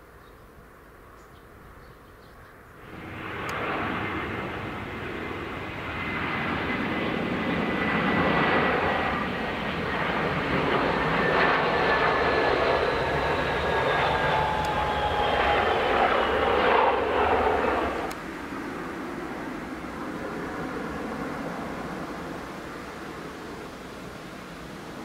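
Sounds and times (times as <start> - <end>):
jet engines roaring: 2.8 - 25.0
plane touching down: 2.8 - 25.0.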